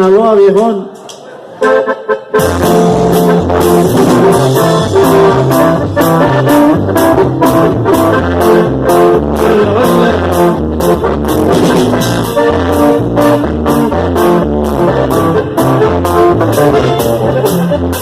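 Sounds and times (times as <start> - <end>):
brass band playing: 1.6 - 18.0.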